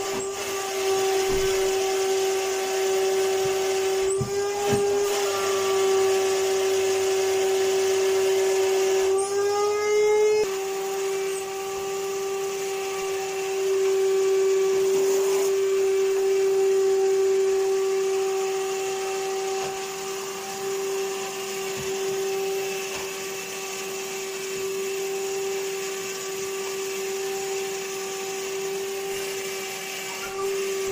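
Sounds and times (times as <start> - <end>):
vacuum cleaner running: 0.0 - 30.9.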